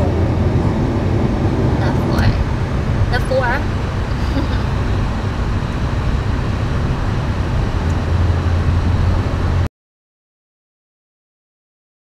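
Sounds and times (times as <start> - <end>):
car road noise on highway: 0.0 - 9.7.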